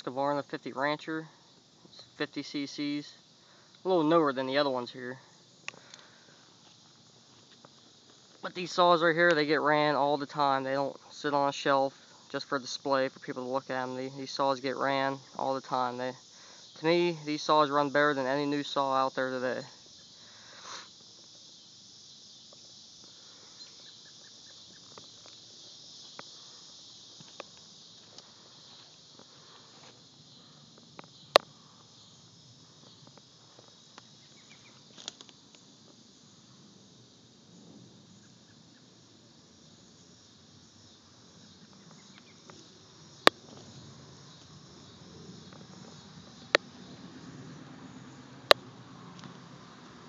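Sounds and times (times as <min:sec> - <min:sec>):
crickets chirping: 0:00.0 - 0:50.0
faint high hiss: 0:00.0 - 0:50.0.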